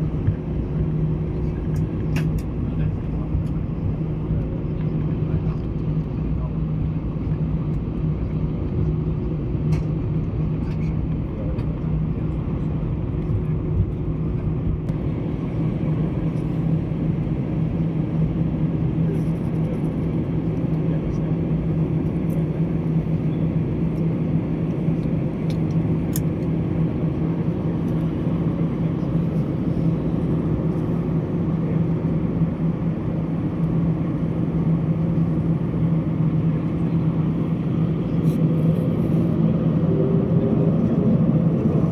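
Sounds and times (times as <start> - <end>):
airplane cabin engine hum: 0.0 - 41.9.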